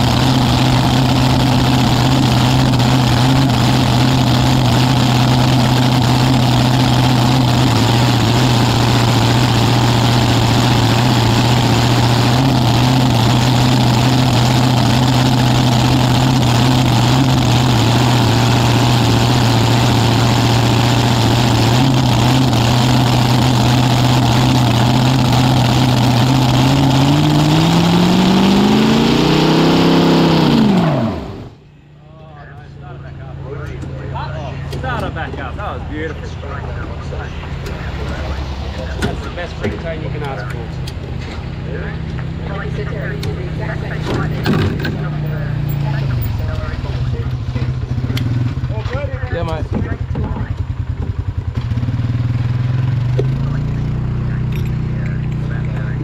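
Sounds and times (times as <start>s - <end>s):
dragster engine running: 0.0s - 56.0s.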